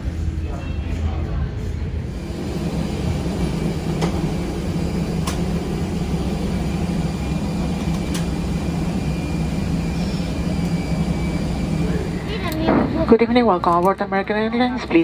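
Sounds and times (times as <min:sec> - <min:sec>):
air-conditioning hum: 0:00.0 - 0:14.9.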